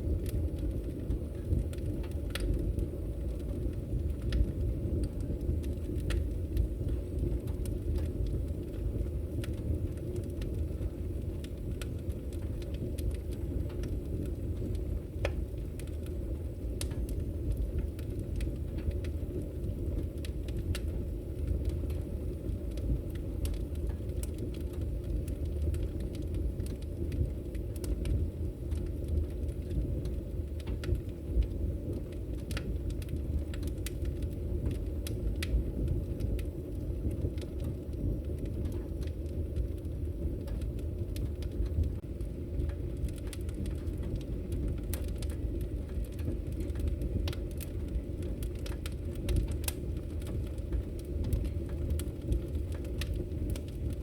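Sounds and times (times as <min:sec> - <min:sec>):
sharp pops and snaps of fire: 0:00.0 - 0:54.0
wood fire crackling: 0:00.0 - 0:54.0.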